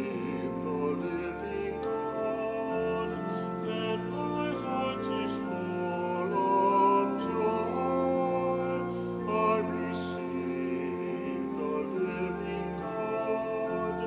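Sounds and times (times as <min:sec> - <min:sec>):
keyboard chords: 0:00.0 - 0:14.0
person singing a hymn: 0:00.0 - 0:14.0.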